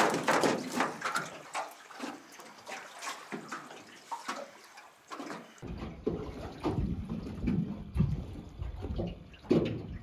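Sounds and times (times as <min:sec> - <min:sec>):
fish splashing and slapping: 0:00.0 - 0:10.0.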